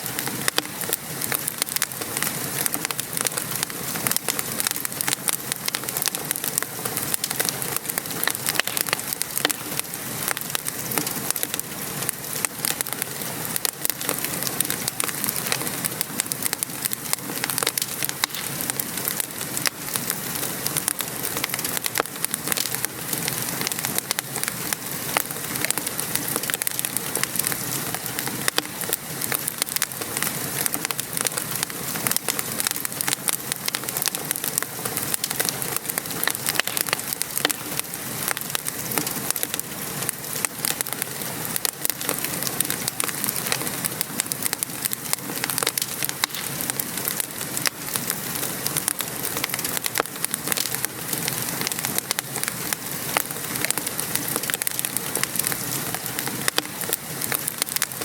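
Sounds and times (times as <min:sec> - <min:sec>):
rain pattering: 0:00.0 - 0:58.0
wood fire crackling: 0:00.0 - 0:58.0.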